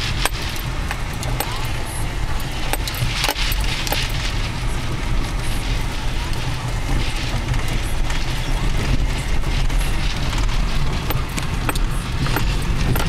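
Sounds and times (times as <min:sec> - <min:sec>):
clicks and rattles: 0:00.0 - 0:04.5, 0:05.6 - 0:13.0
tyres and engine rumbling: 0:00.0 - 0:13.0.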